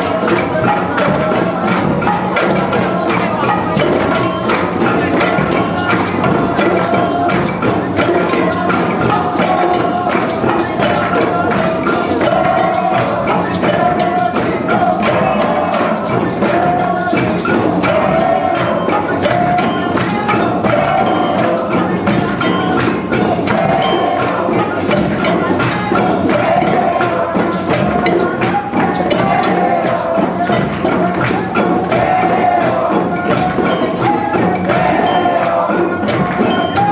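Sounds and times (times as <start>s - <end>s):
instrumental music: 0.0s - 36.9s
light percussion strikes: 0.0s - 36.9s.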